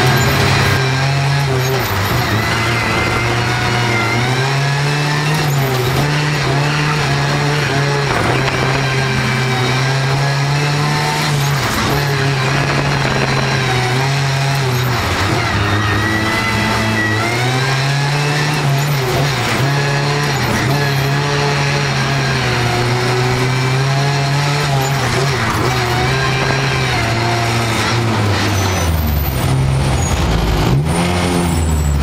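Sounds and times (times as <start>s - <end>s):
racing car engine revving: 0.0s - 32.0s.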